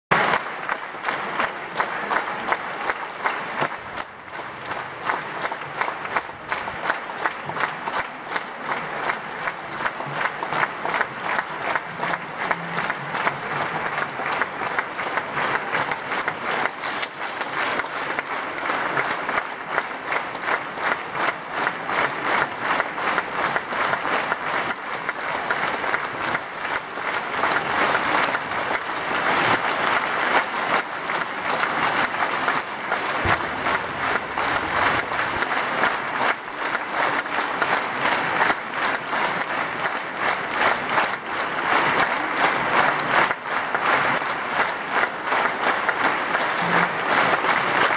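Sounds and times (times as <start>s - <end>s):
audience applauding: 0.1s - 47.9s.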